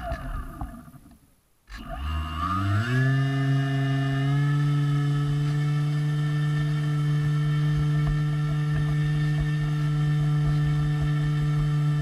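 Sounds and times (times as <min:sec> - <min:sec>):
model airboat motor and propeller hum: 0:00.0 - 0:12.0.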